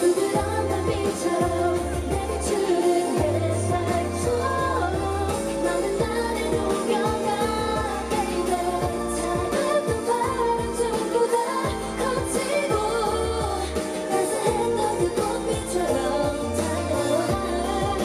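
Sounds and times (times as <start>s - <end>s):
backing track with bass and drums: 0.0s - 18.0s
women singing pop song: 0.0s - 18.0s.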